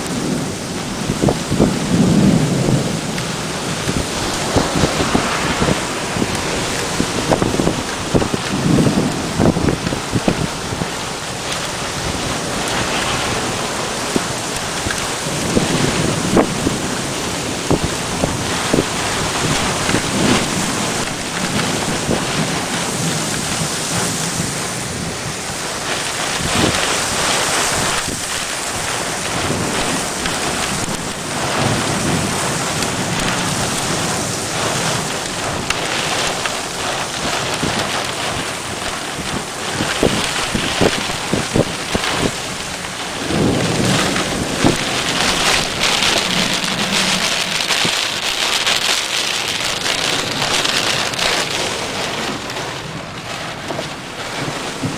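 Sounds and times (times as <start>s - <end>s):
heavy rain pouring: 0.0s - 54.9s
raindrops ticking: 0.0s - 54.9s
thunder rumbling: 0.0s - 54.9s.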